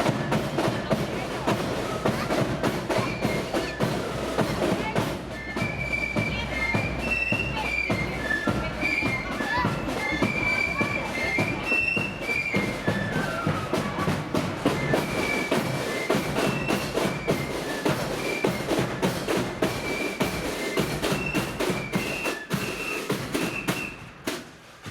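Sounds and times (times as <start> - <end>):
flutes playing melody: 0.0 - 24.2
rapid snare drumming: 0.0 - 24.9.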